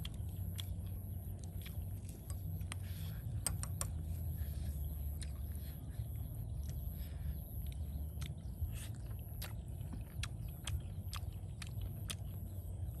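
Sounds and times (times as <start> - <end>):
person chewing food: 0.0 - 13.0
steady low rumble: 0.0 - 13.0.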